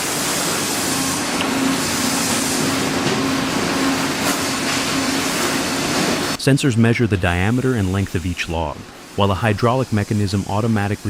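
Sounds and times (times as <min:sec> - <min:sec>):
conveyor machinery rushing: 0:00.0 - 0:11.0.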